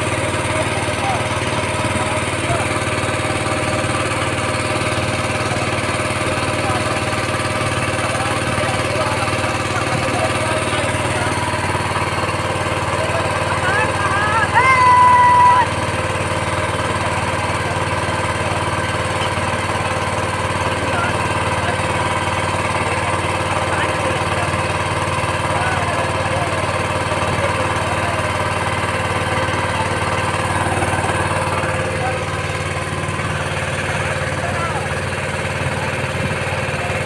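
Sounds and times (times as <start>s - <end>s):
motorboat engine humming: 0.0s - 37.0s.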